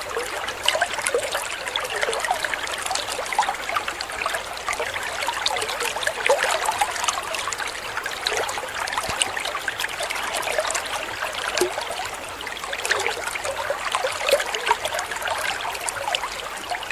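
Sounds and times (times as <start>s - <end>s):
water trickling and splashing: 0.0s - 16.9s.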